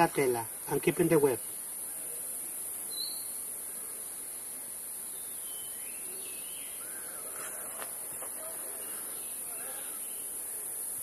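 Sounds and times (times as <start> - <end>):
high-pitched insect chorus: 0.0 - 11.0
faint bird chirps: 0.8 - 4.2, 5.0 - 11.0.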